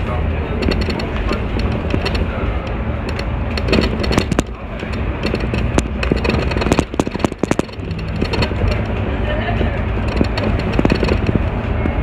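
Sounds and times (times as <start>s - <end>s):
bus engine and road rumble: 0.0s - 12.0s
sharp clicks and rattles: 0.4s - 12.0s.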